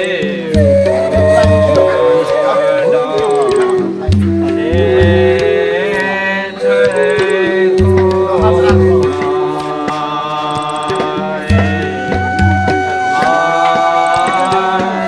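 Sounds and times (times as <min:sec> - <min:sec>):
accompanying instruments: 0:00.0 - 0:15.0
person singing mantra-like melody: 0:00.0 - 0:15.0
steady drum beat: 0:00.0 - 0:15.0.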